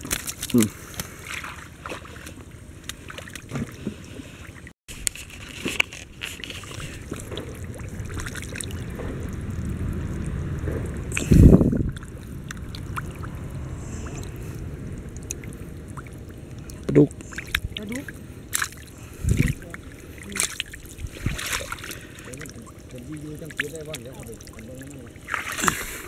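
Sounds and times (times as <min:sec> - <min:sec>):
feet wading through muddy water: 0:00.0 - 0:26.0.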